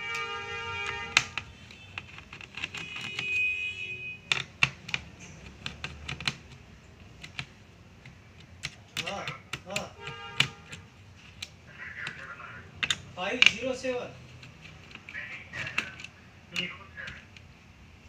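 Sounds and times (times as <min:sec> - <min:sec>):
screwdriver clicking on laptop screws: 0:00.0 - 0:03.4, 0:04.3 - 0:12.2, 0:12.8 - 0:17.5.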